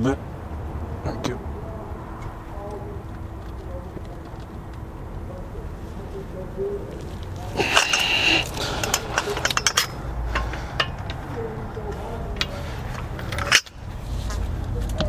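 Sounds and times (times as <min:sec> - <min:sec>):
metal hand tools clinking: 0:01.0 - 0:15.0.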